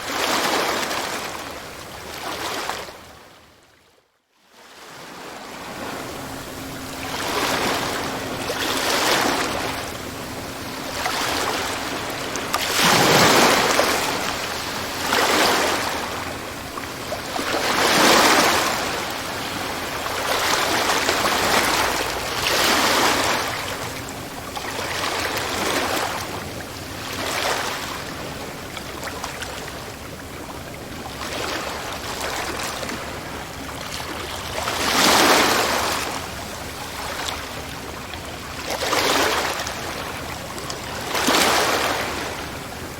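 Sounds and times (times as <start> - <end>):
sea waves breaking on shore: 0.0 - 3.7, 4.5 - 42.9.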